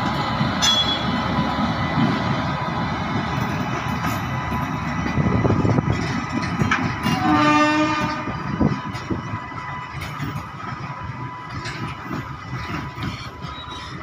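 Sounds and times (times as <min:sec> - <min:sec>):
freight train rumble and clatter: 0:00.0 - 0:14.0.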